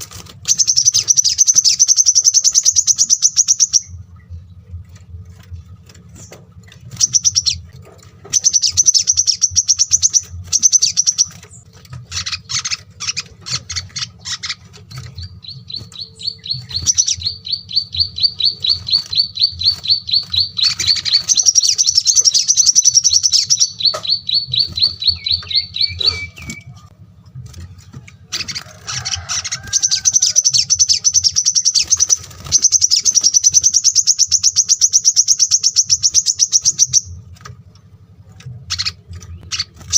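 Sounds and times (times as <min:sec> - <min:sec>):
faint low hum: 0:00.0 - 0:39.9
songbirds trilling: 0:00.0 - 0:39.9.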